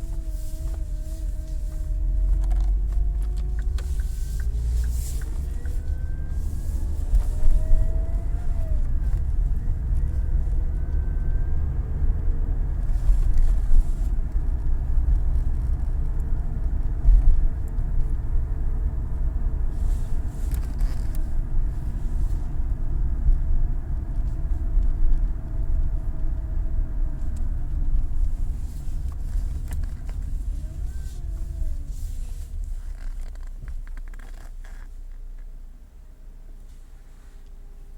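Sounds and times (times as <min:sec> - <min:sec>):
car engine rumbling: 0:00.0 - 0:37.9.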